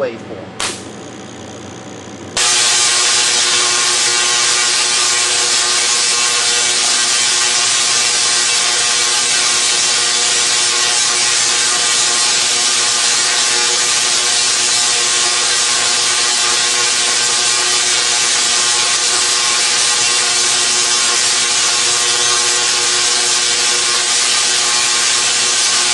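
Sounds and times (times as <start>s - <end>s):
tesla coil buzzing: 0.0s - 25.9s.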